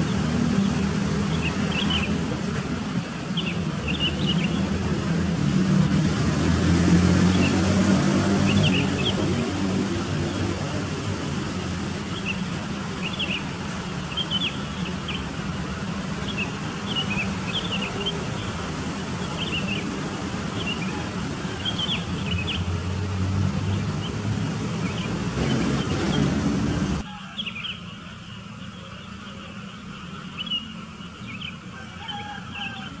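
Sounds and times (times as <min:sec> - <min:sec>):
small birds chirping: 0:00.0 - 0:05.1, 0:07.1 - 0:22.8, 0:23.5 - 0:26.5, 0:27.2 - 0:33.0.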